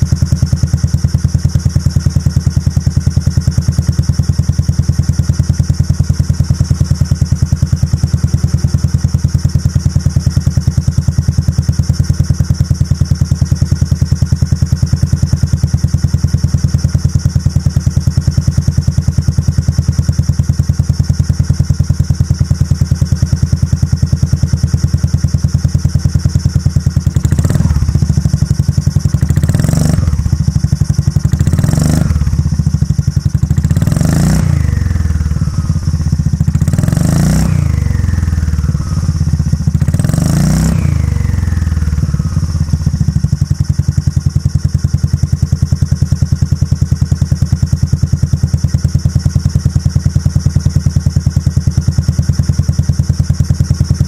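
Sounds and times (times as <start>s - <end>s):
scooter engine idling: 0.0s - 54.0s
scooter engine revving: 0.0s - 54.0s.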